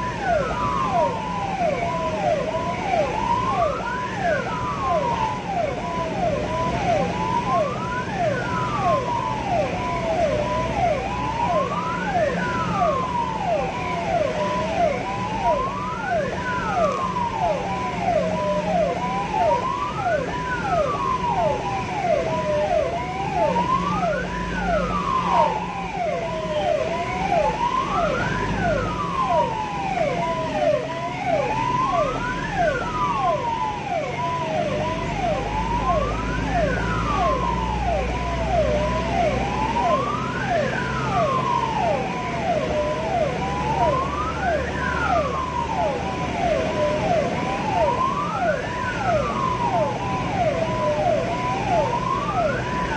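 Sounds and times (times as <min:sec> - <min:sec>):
ambulance siren wailing: 0:00.0 - 0:52.9
rapid falling siren tone: 0:00.0 - 0:52.9
road noise: 0:00.0 - 0:52.9
vehicle engine: 0:00.0 - 0:52.9.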